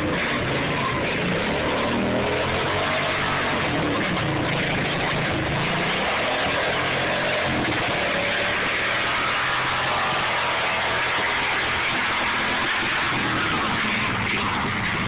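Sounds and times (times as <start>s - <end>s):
lawn tractor engine under load: 0.0s - 15.0s
tyres churning mud: 0.0s - 15.0s.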